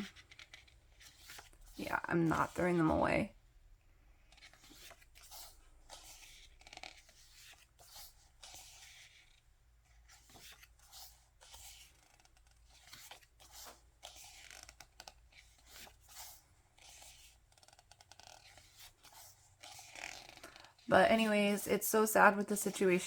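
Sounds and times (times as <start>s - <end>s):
paper pages rustling: 0.0s - 2.9s, 4.2s - 21.6s.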